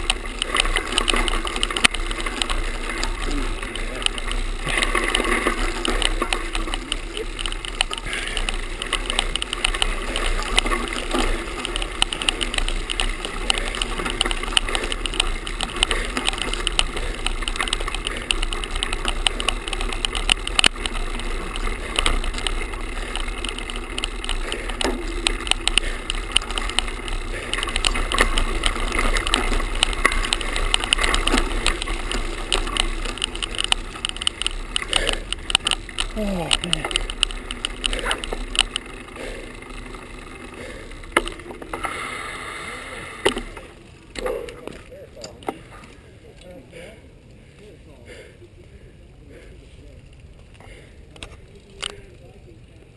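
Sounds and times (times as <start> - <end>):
camera rattling against bicycle: 0.0 - 52.9.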